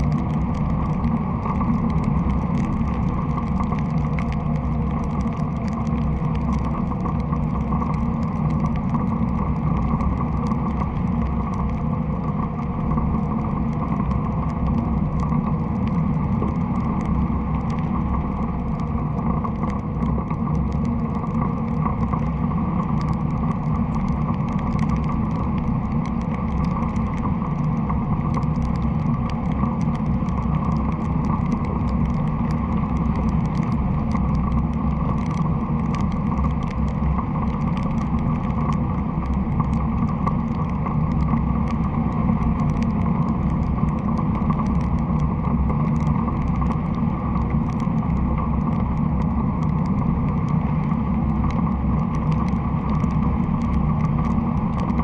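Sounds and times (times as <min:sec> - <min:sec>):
faint ticks: 0:00.0 - 0:55.0.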